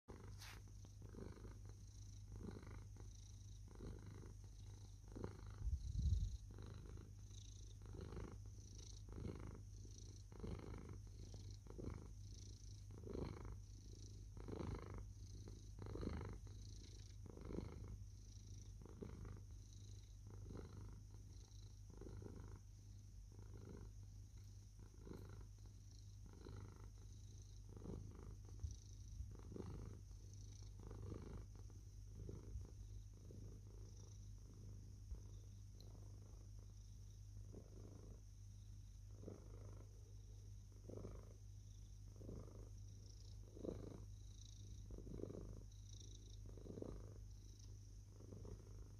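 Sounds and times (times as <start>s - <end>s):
cat purring: 0.1s - 48.9s.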